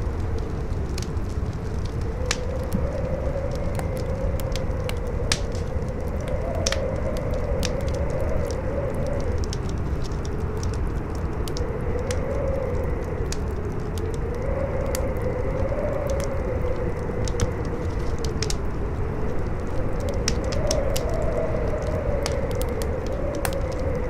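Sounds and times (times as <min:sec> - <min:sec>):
campfire crackling: 0:00.0 - 0:24.0
strong howling wind: 0:00.0 - 0:24.0.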